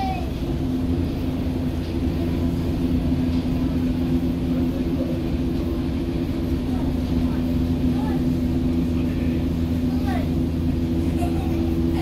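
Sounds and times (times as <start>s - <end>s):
electric train hum: 0.0s - 12.0s
wheels rumbling on rail: 0.0s - 12.0s.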